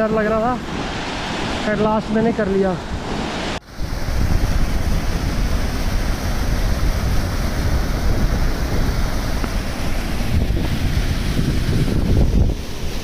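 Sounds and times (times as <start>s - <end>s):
mountain stream rushing: 0.0s - 13.0s
wind buffeting microphone: 0.0s - 13.0s.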